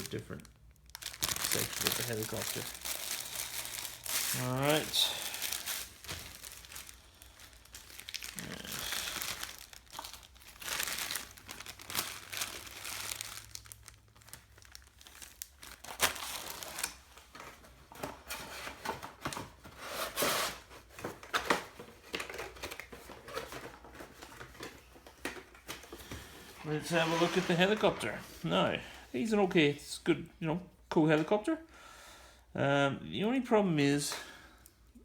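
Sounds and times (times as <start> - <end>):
plastic bags crinkling: 0.0 - 19.6, 20.2 - 28.7.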